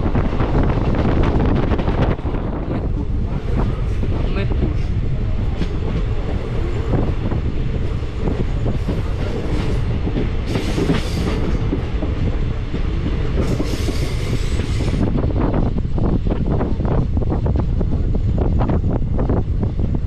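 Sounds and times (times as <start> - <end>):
clickety-clack over rail joints: 0.0 - 20.0
train wheel-and-rail rumble: 0.0 - 20.0.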